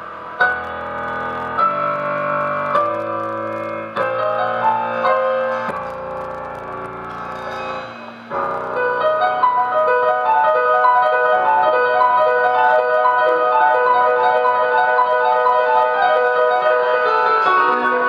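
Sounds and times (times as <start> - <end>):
keyboard playing piano chords: 0.0 - 18.0.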